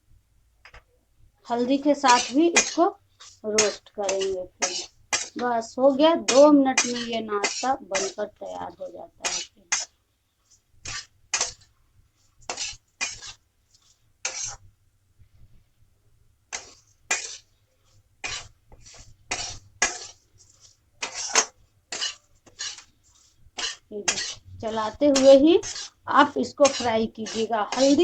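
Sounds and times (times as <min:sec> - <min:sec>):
spatula scraping dry rice in pan: 0:01.5 - 0:14.7, 0:16.5 - 0:28.0.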